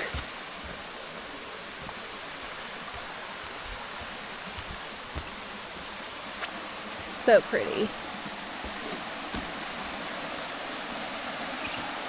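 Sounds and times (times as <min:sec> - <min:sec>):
soft low thumps: 0:00.0 - 0:10.8
creek water running: 0:00.0 - 0:12.0.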